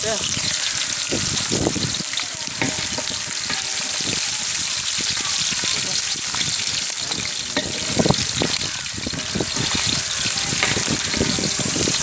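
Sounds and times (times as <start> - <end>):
spices sizzling in hot oil: 0.0 - 12.0
wooden paddle scraping pot: 0.4 - 12.0.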